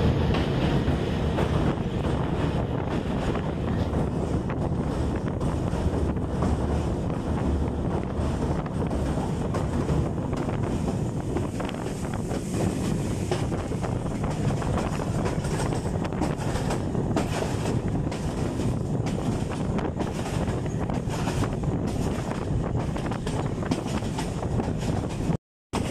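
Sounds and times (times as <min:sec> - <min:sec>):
train wheels rumbling on rail: 0:00.0 - 0:25.9
wind buffeting microphone: 0:00.0 - 0:25.9.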